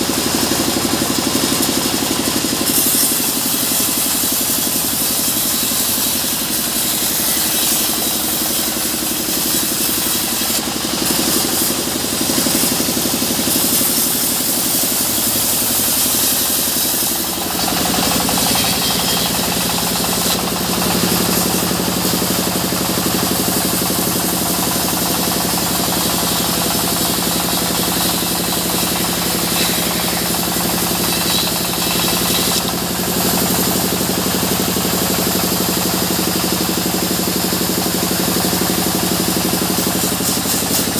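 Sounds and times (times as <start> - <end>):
band saw ripping log: 0.0 - 34.5, 39.5 - 40.9.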